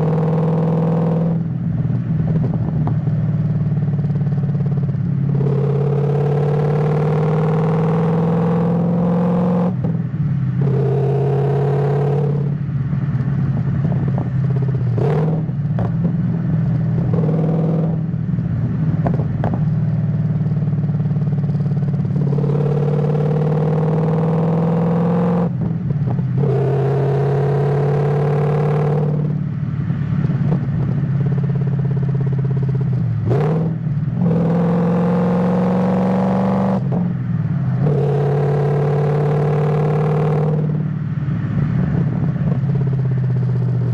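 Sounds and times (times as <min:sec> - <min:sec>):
car engine accelerating through gears: 0:00.0 - 0:01.6, 0:02.3 - 0:18.1, 0:18.7 - 0:43.9.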